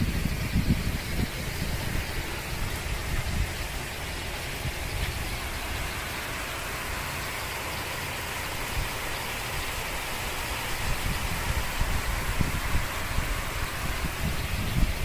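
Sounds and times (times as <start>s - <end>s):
heavy rain falling: 0.0s - 15.0s
wind buffeting microphone: 0.0s - 15.0s.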